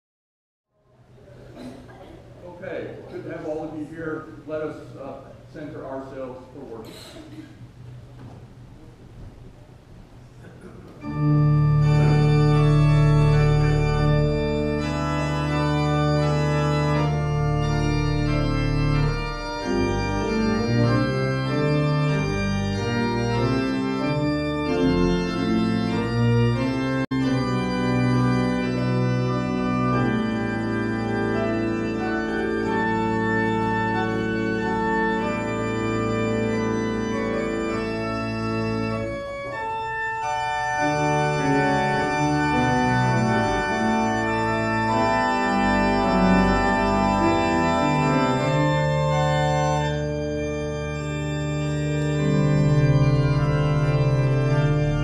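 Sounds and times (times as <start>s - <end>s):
church organ chords: 10.3s - 55.0s.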